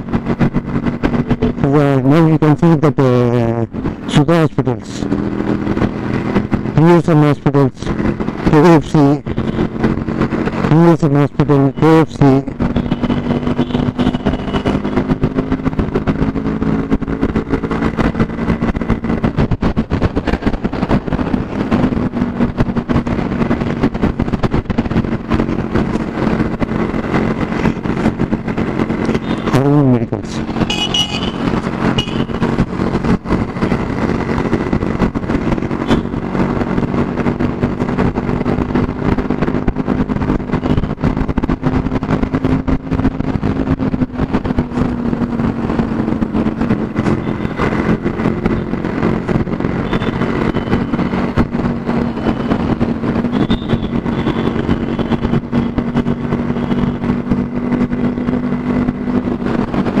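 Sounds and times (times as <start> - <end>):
motorcycle engine running: 0.0 - 2.2, 5.0 - 6.9, 7.8 - 10.9, 11.6 - 60.0
wind and road noise: 0.0 - 60.0.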